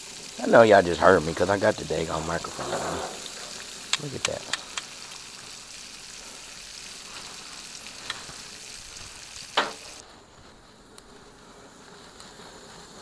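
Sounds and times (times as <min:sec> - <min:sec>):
steak sizzling on grill: 0:00.0 - 0:13.0.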